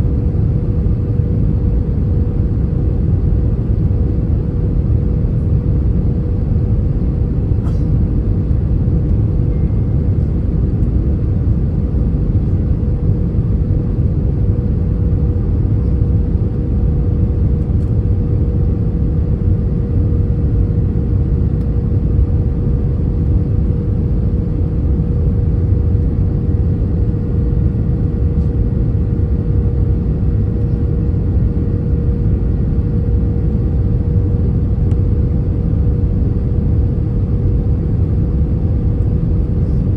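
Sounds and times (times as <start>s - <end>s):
aircraft cabin engine rumble: 0.0s - 39.9s
constant hum: 0.0s - 39.9s.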